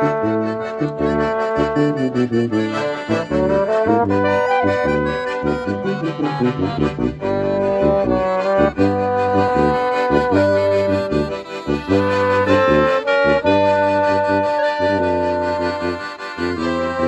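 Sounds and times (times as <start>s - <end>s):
clarinet: 0.0s - 17.0s
piano accordions: 0.0s - 17.0s
trombone melody: 0.0s - 17.0s
tuba bass line: 0.0s - 17.0s.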